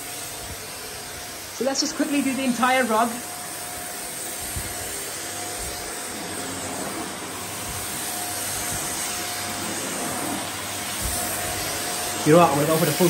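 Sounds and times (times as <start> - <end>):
vacuum cleaner hissing: 0.0 - 13.0.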